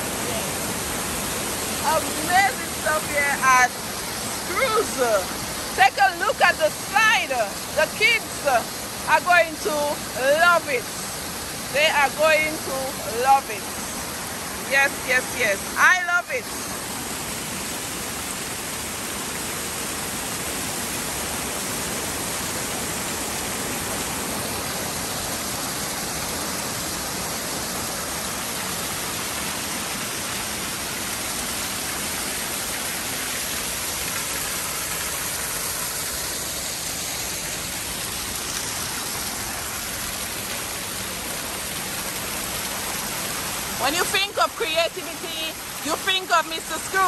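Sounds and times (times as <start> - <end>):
water rushing and splashing: 0.0 - 47.0.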